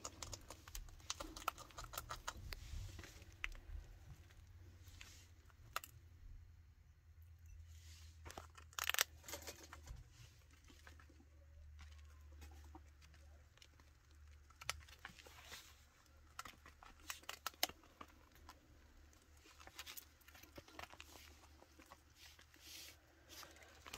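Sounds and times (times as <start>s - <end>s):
chinchilla gnawing a treat stick: 0.0s - 5.9s, 10.6s - 23.9s.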